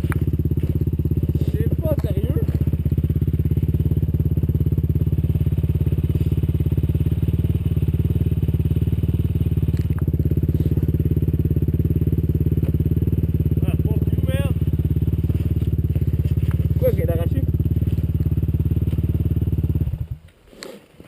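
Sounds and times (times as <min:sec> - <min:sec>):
quad engine running steadily: 0:00.0 - 0:20.2.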